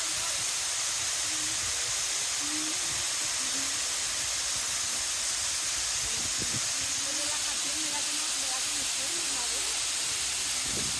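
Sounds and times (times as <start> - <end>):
rushing water: 0.0 - 10.9.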